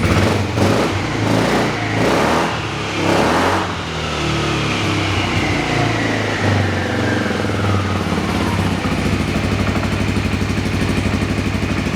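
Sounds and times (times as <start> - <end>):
scooter engine revving and idling: 0.0 - 11.9.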